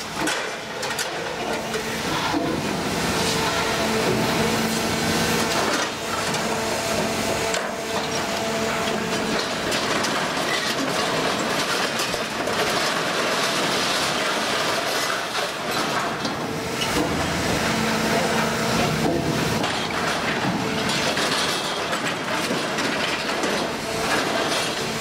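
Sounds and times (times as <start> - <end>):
steady machine hum: 1.2 - 22.4.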